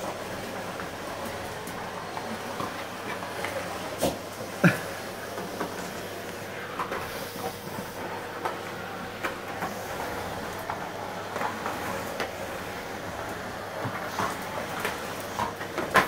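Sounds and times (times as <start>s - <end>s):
vacuum cleaner humming: 0.0s - 16.0s.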